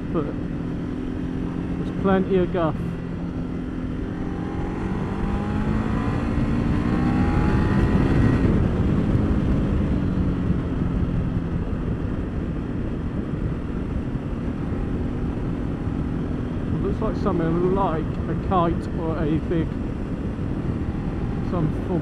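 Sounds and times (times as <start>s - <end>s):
motorcycle engine accelerating: 0.0s - 22.0s
wind rush: 0.0s - 22.0s.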